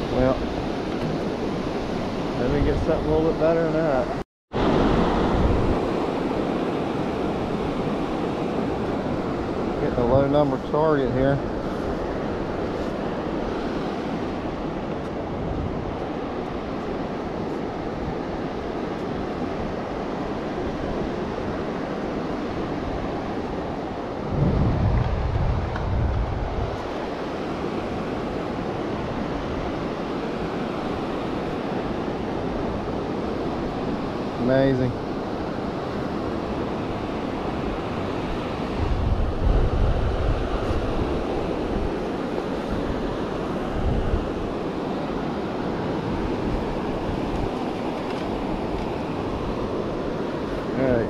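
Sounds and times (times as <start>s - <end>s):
beach surf: 0.0s - 51.0s
wind on microphone: 0.0s - 51.0s.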